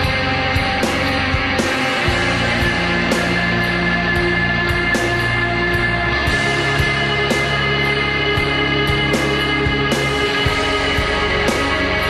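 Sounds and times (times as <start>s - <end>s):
electric guitar: 0.0s - 12.0s
rock music: 0.0s - 12.0s
steady drum beat: 0.0s - 12.0s.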